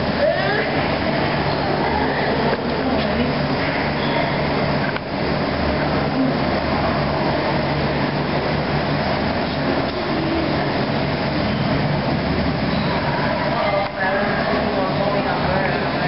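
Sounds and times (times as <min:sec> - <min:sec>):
constant noisy rush: 0:00.0 - 0:16.0.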